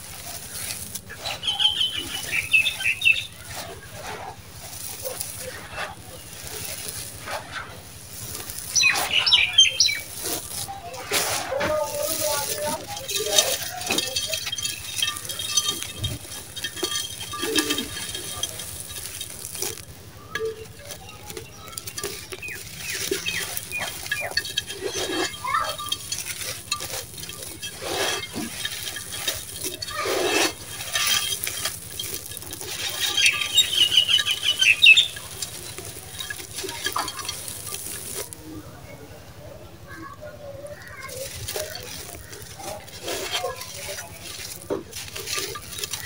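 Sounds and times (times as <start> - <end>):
hands crumbling gritty chunks: 0.0 - 38.6, 40.5 - 46.0
grains pattering into pot: 0.0 - 38.7, 39.9 - 46.0.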